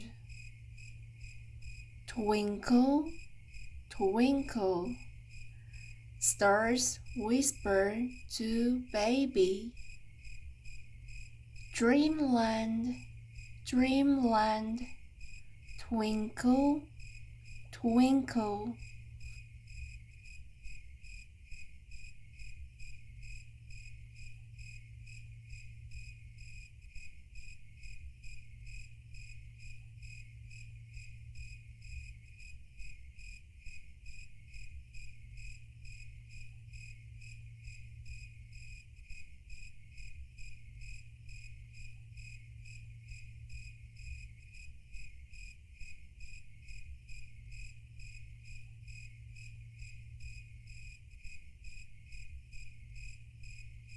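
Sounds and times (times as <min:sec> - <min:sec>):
cricket chirping: 0:00.0 - 0:53.9
low steady hum: 0:00.0 - 0:53.9.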